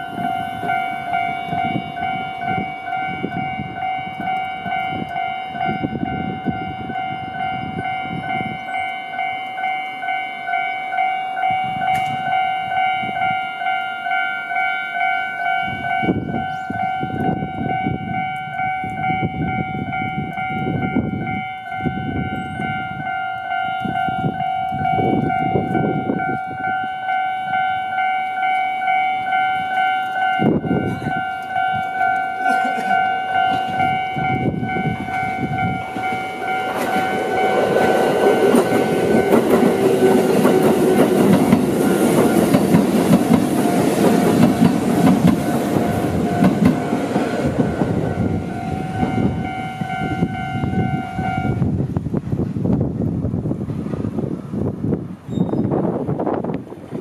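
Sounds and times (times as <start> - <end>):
level crossing warning bell: 0.0 - 51.7.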